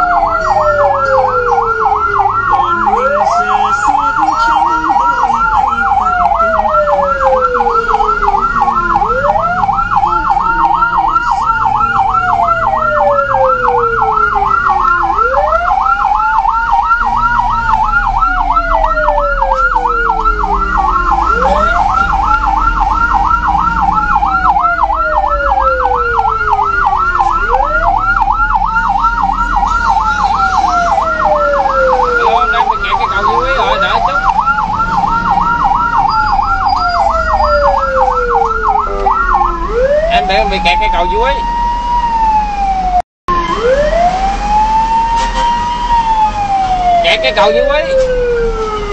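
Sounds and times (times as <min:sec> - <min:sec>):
ambulance siren: 0:00.0 - 0:48.9
low vehicle rumble: 0:00.0 - 0:48.9.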